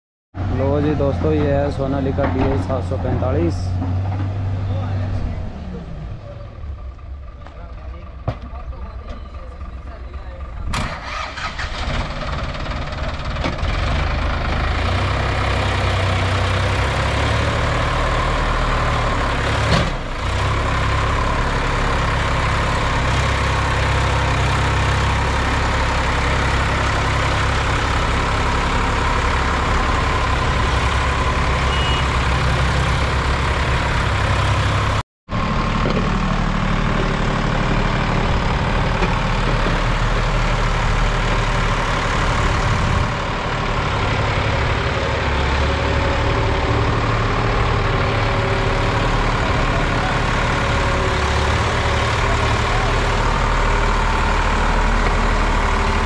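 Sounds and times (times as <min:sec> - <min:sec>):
tractor diesel engine under load: 0:00.4 - 0:56.0.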